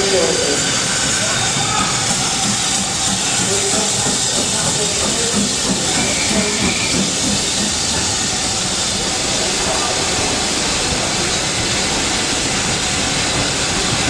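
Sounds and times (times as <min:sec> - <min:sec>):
steam locomotives hissing: 0:00.0 - 0:14.0.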